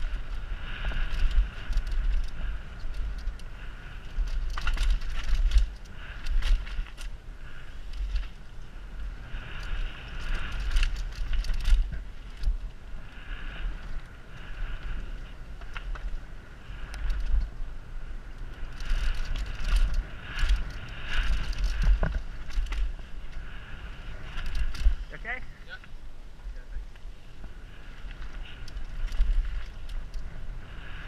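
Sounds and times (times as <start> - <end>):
bike rattles and clicks: 0.0 - 31.0
bike tyre roar: 0.0 - 31.0
wind rumble on microphone: 0.0 - 31.0.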